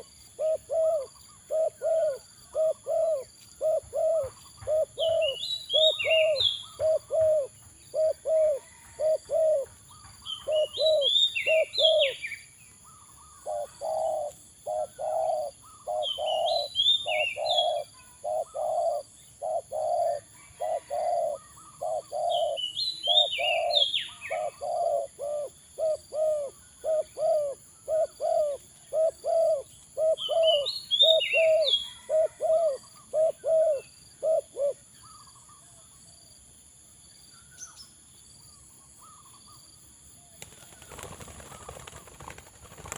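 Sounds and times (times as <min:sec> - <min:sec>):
doves cooing: 0:00.0 - 0:12.2, 0:12.9 - 0:35.3
bird chirping: 0:00.0 - 0:36.4.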